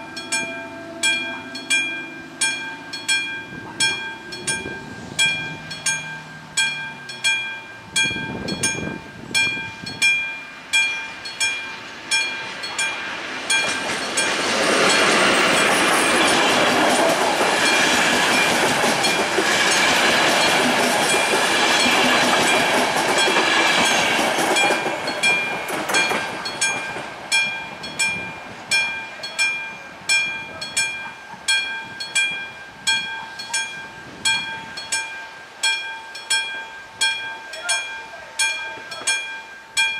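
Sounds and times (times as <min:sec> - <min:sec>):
level-crossing warning bell: 0:00.0 - 0:39.9
passenger train passing: 0:00.0 - 0:39.9.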